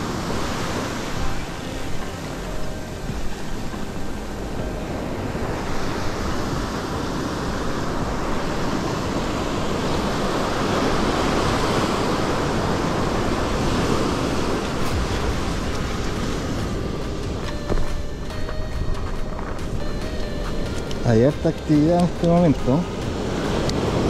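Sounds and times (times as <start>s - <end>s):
surf breaking on sandy beach: 0.0s - 4.2s, 4.8s - 24.0s.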